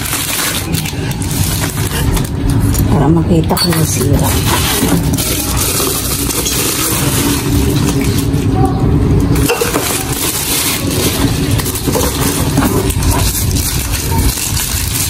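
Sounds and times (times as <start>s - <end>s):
plastic packaging crinkling: 0.0s - 15.0s
steady low rumble: 0.0s - 15.0s.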